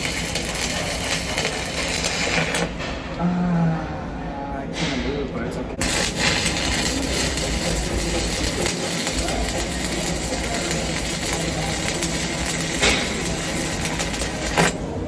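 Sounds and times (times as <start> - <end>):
welding arc hissing: 0.0 - 3.1, 5.8 - 15.0.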